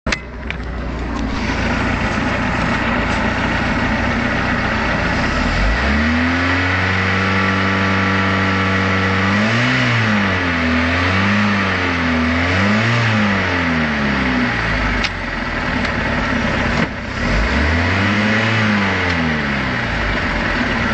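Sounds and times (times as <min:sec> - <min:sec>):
boat engine revving: 0:01.2 - 0:15.0, 0:16.6 - 0:20.9.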